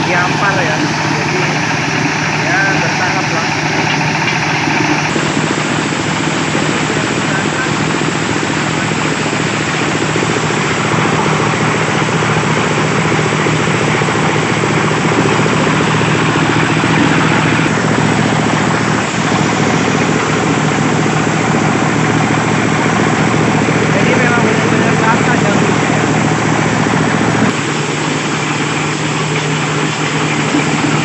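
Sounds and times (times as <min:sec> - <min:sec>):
corn threshing noise: 0:00.0 - 0:31.0
engine drone: 0:00.0 - 0:31.0.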